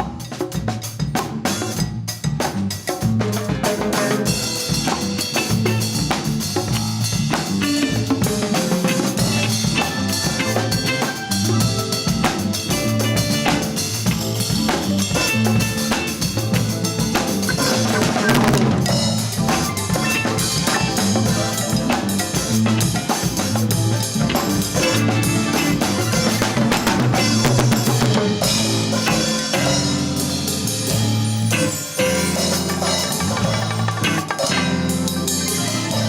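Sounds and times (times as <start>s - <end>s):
drum kit beat: 0.0s - 36.0s
latin fusion band playing: 0.0s - 36.0s.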